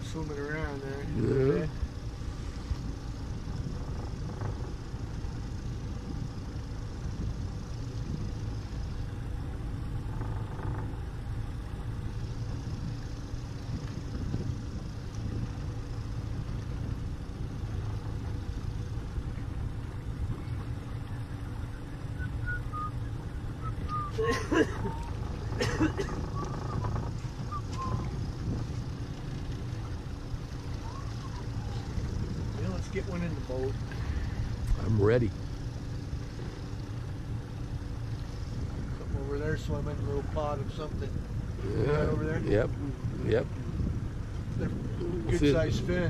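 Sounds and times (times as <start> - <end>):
outboard motor running: 0.0 - 46.0.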